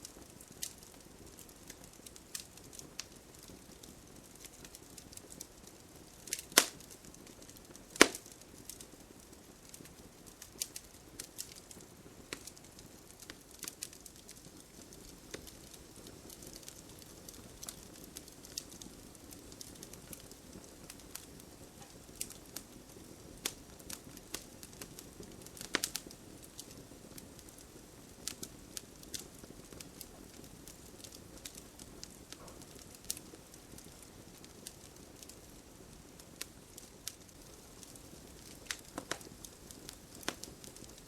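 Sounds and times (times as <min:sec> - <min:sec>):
campfire flames hissing: 0:00.0 - 0:41.0
fire crackling and popping: 0:00.0 - 0:41.0.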